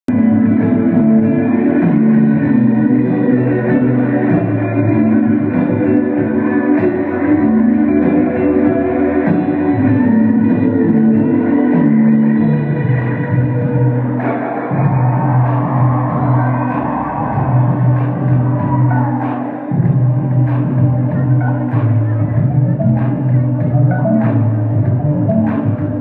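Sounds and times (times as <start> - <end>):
live band playing slow melody: 0.2 - 26.0.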